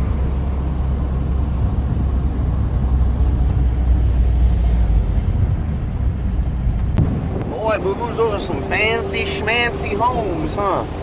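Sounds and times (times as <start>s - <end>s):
vehicle engine and road drone: 0.0s - 11.0s.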